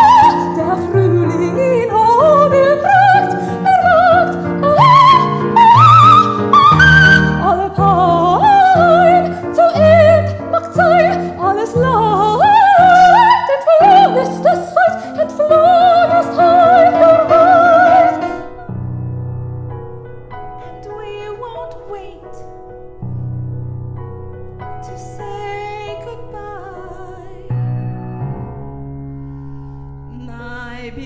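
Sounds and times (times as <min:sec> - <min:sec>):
soprano singing operatic passage: 0:00.0 - 0:18.8, 0:20.6 - 0:22.6, 0:24.7 - 0:27.8, 0:30.1 - 0:31.0.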